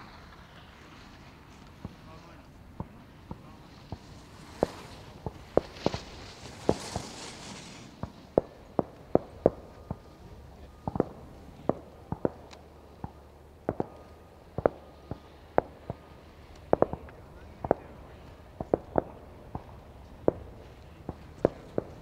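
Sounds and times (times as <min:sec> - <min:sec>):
distant fireworks bangs: 0:00.0 - 0:22.0.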